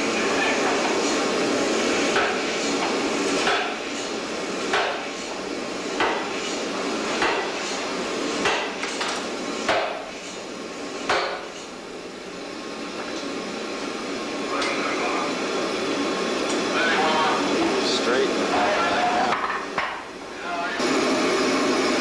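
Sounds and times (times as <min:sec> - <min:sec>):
machine shop din: 0:00.0 - 0:22.0.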